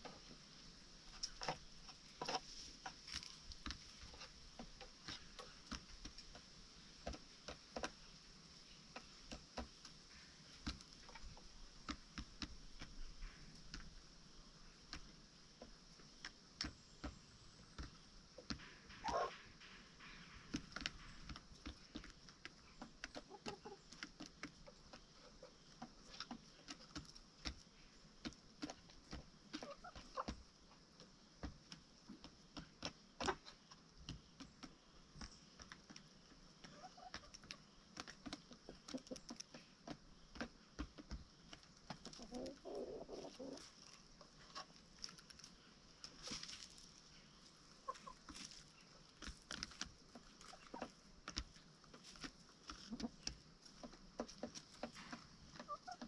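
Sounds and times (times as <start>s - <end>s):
chickens pecking and scratching: 0.0s - 56.0s.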